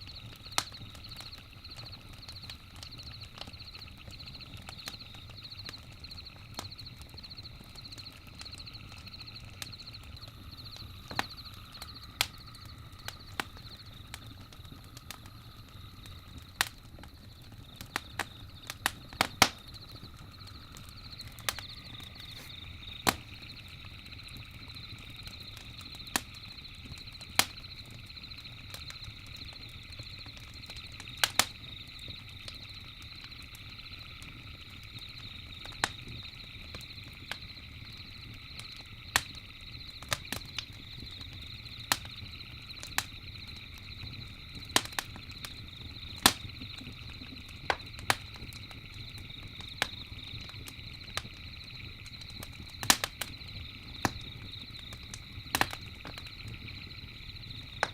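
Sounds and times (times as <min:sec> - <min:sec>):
campfire crackling and popping: 0:00.0 - 0:57.9
night insects chirring: 0:00.0 - 0:57.9.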